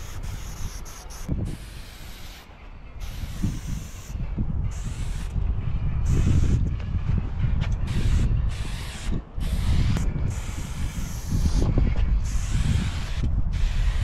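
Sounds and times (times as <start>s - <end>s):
spray paint can spraying: 0.0s - 5.3s, 7.8s - 14.0s.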